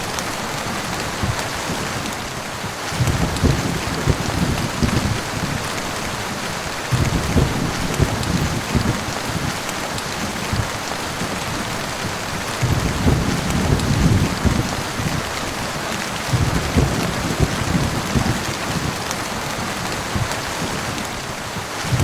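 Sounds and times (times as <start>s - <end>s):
heavy rain falling: 0.0s - 22.0s
low thunder rumbling: 2.9s - 21.0s, 21.6s - 22.0s.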